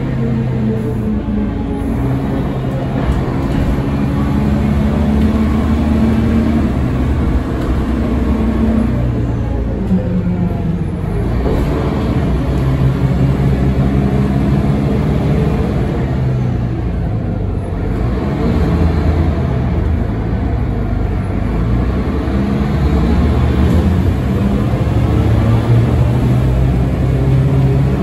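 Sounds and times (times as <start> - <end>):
bus diesel engine: 0.0 - 28.0
road noise inside bus: 0.0 - 28.0.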